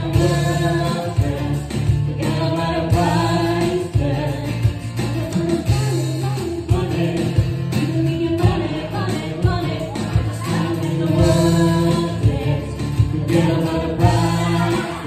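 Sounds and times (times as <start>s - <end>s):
strummed acoustic guitar: 0.0s - 15.0s
woman singing into a microphone: 0.0s - 15.0s.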